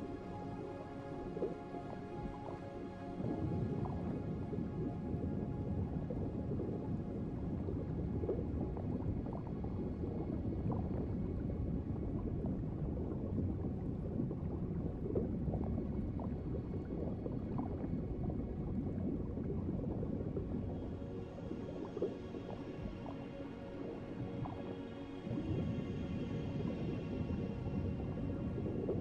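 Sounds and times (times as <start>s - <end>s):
underwater bubbling and gurgling: 0.0s - 29.0s.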